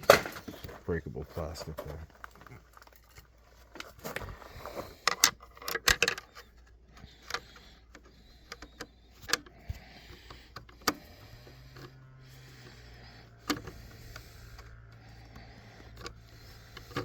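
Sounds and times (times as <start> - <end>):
hand tools clicking and clacking: 1.4 - 17.0.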